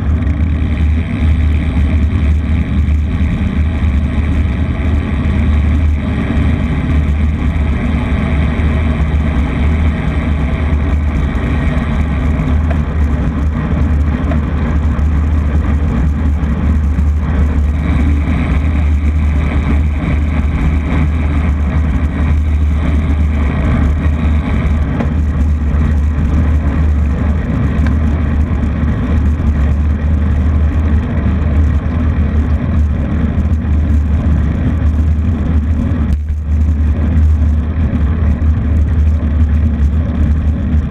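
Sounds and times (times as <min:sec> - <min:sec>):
deep engine hum: 0:00.0 - 0:40.9
road and wind noise: 0:00.0 - 0:40.9.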